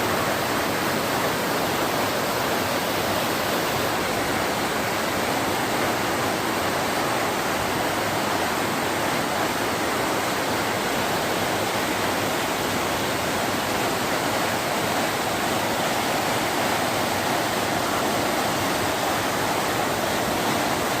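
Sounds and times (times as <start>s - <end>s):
water rushing and churning: 0.0s - 21.0s.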